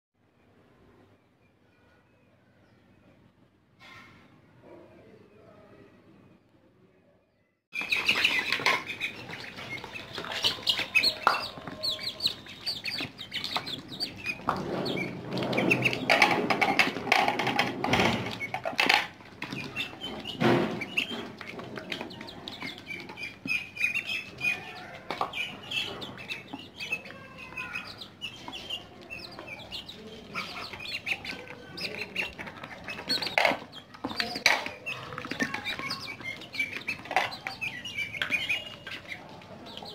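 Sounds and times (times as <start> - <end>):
beaks clicking on metal tray: 7.8 - 39.9
chicks and ducklings peeping: 7.8 - 39.9
wings flapping: 7.8 - 39.9.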